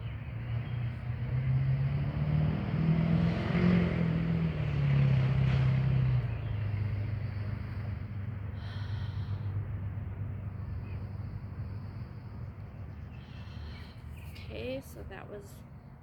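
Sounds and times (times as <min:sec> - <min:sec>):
motor vehicle driving past: 0:00.0 - 0:16.0.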